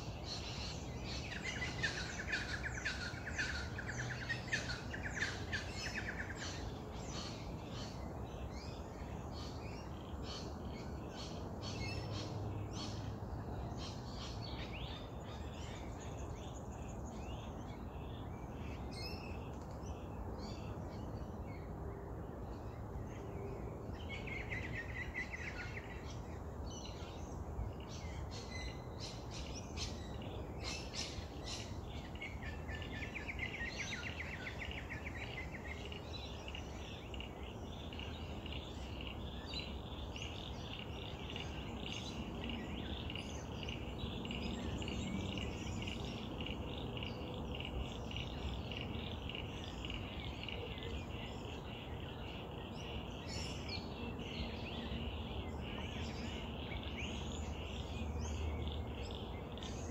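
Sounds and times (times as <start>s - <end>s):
small birds chirping: 0.0s - 21.8s, 22.4s - 59.9s.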